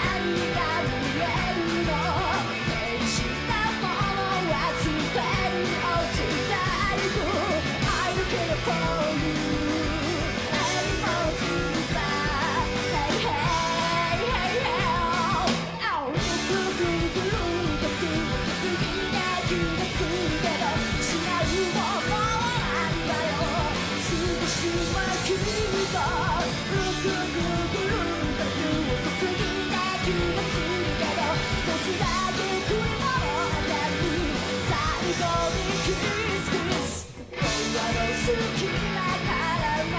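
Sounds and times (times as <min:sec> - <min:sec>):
live rock band playing: 0:00.0 - 0:39.9
woman singing: 0:00.0 - 0:39.9.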